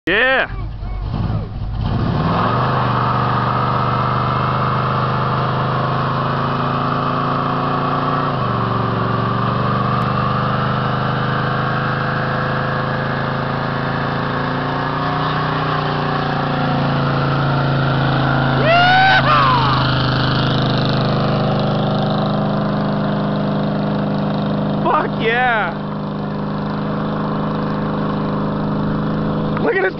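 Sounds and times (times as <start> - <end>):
car engine revving high: 1.0 - 29.9.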